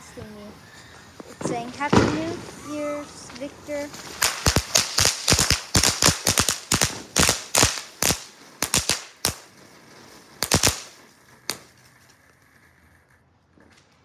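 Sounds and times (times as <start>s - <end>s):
firework hissing: 0.0s - 12.8s
firework cracks: 0.0s - 13.1s.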